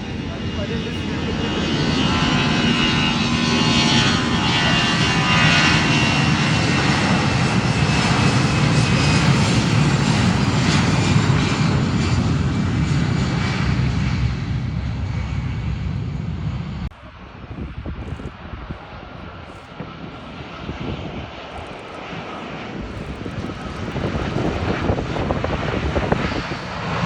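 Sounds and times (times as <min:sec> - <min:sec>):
jet engines whining and rumbling: 0:00.0 - 0:27.0.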